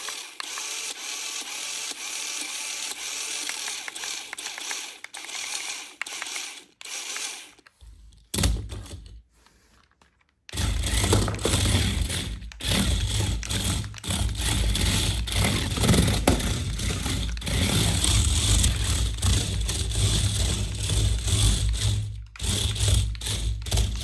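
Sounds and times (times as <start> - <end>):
toy car electric motor running: 0.0 - 7.7, 10.5 - 24.0.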